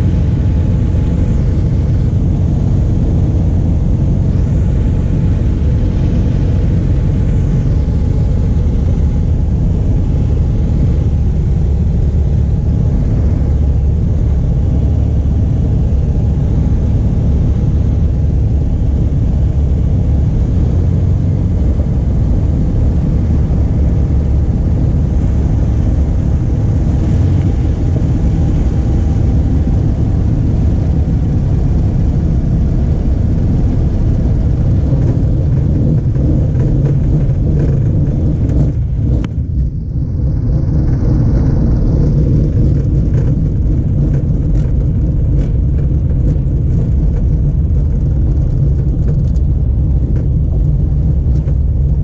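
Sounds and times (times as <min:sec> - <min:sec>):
plane engine and propeller drone: 0:00.0 - 0:52.0.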